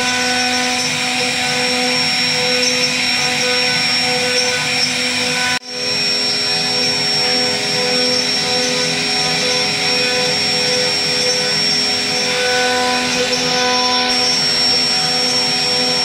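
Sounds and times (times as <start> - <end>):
bit cutting wood: 0.0 - 16.0
router spindle whining: 0.0 - 16.0.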